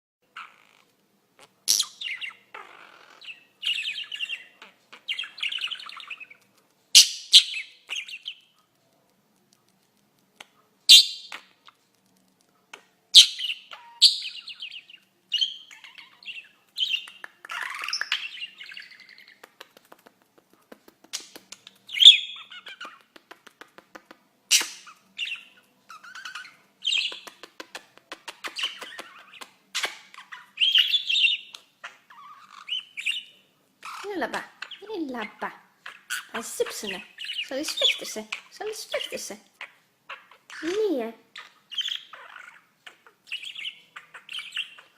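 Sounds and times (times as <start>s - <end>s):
pet bird chirping: 0.3s - 20.1s, 21.1s - 44.9s.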